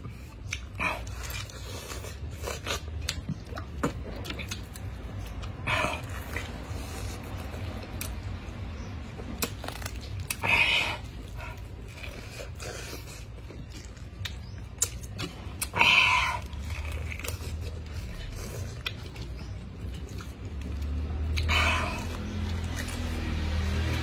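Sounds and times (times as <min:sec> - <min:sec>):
biting and chewing pineapple: 0:00.0 - 0:24.0.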